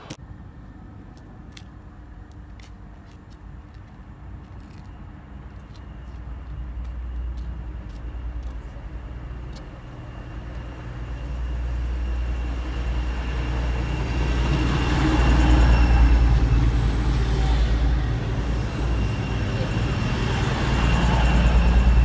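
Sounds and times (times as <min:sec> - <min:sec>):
train passing close by: 0:00.0 - 0:22.0.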